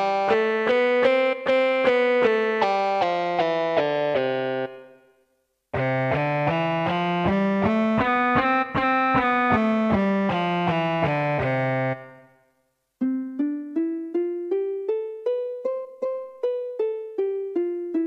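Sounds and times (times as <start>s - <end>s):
keyboard playing a scale: 0.0s - 5.0s, 5.8s - 12.3s, 13.0s - 18.0s
plucked keyboard notes: 0.0s - 5.0s, 5.8s - 12.3s, 13.0s - 18.0s.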